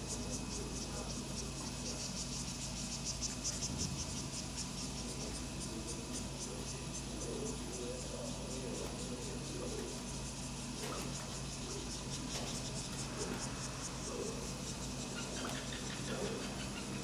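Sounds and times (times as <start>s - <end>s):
insects chirping: 0.0s - 17.0s
steady low hum: 0.0s - 17.0s.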